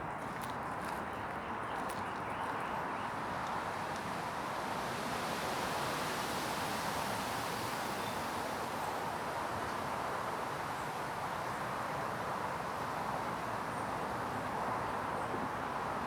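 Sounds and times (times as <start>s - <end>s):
wind and rain through trees: 2.6s - 16.0s.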